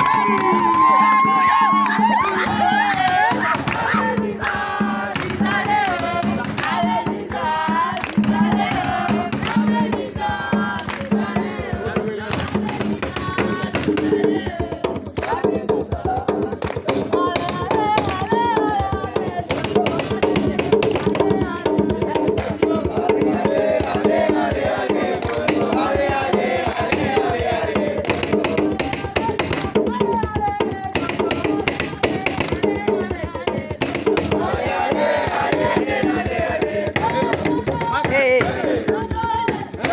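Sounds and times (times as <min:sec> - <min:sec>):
fast hand percussion: 0:00.0 - 0:39.9
group of voices singing: 0:00.0 - 0:39.9.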